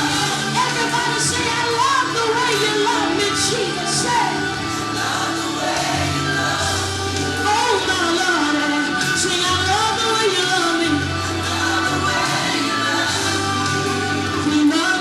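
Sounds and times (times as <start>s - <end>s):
voices singing along: 0.0s - 15.0s.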